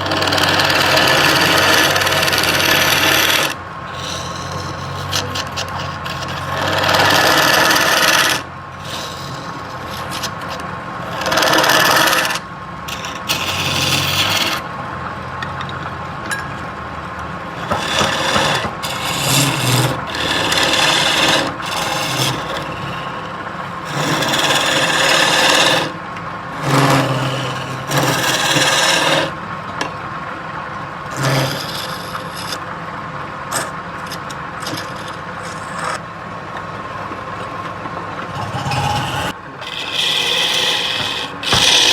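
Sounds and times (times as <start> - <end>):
tool scraping spinning wood: 0.0 - 16.6, 17.4 - 29.9, 31.0 - 32.7, 33.3 - 36.1, 37.1 - 41.9
lathe motor hum: 0.0 - 41.9.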